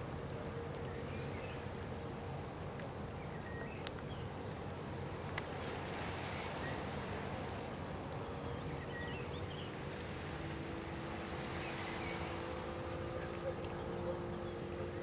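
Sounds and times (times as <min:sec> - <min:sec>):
wind-like hiss: 0:00.0 - 0:15.0.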